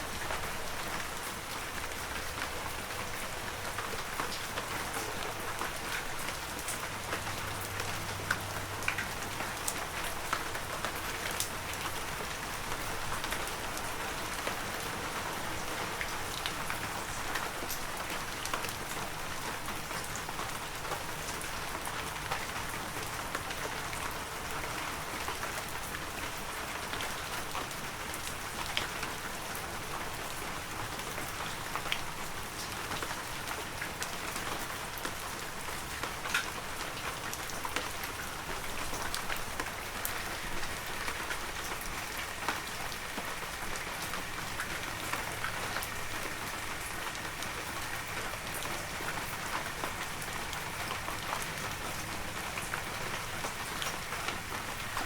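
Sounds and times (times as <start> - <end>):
raindrops ticking on surfaces: 0.0 - 55.0.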